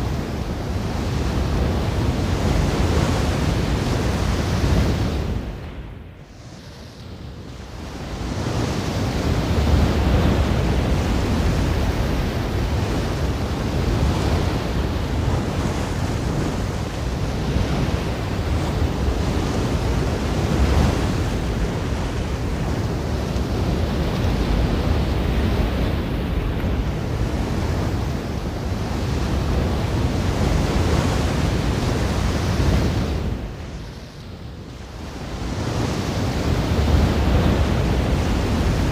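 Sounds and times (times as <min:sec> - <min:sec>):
ocean waves washing in: 0:00.0 - 0:38.9.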